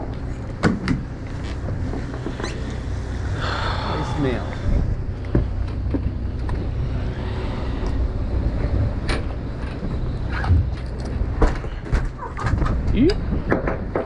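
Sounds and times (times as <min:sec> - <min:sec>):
boat engine droning: 0:00.0 - 0:12.2.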